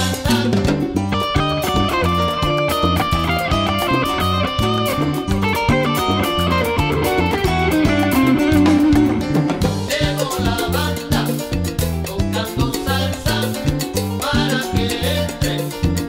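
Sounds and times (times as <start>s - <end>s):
salsa music: 0.0s - 16.0s.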